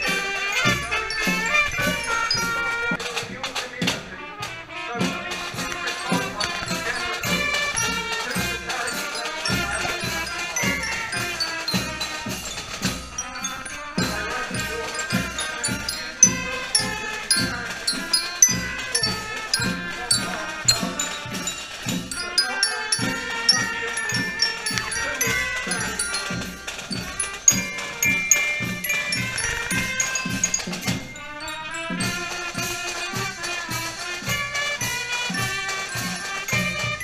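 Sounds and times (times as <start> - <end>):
brass melody: 0.0 - 37.0
marching drum beat: 0.0 - 37.0
marching glockenspiel notes: 0.0 - 37.0.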